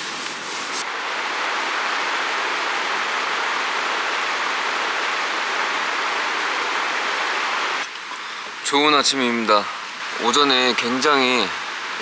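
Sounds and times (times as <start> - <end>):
creek water running over stones: 0.0 - 12.0.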